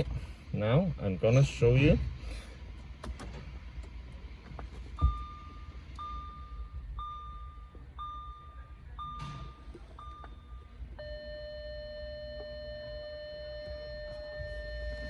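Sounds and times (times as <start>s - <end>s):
steady lower continuous tone: 0.0s - 15.0s.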